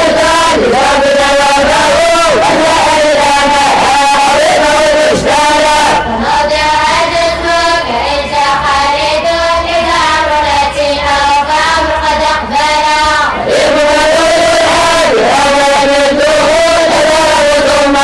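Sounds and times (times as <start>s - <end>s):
students chanting in unison: 0.0s - 18.0s.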